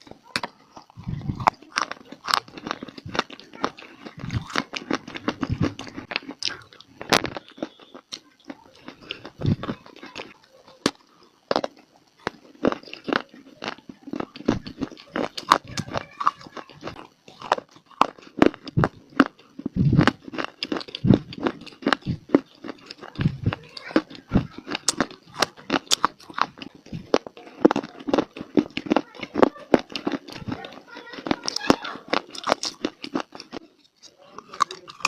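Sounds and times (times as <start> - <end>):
biting and chewing crunchy clay: 0.0 - 35.0.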